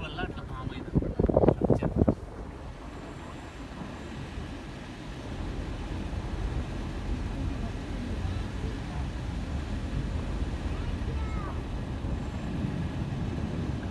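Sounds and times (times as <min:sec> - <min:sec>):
car engine and road noise: 0:00.0 - 0:13.9.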